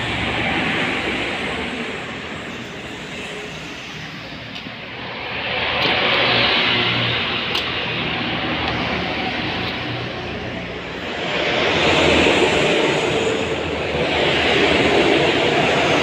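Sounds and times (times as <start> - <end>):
vehicle noise: 0.0 - 16.0.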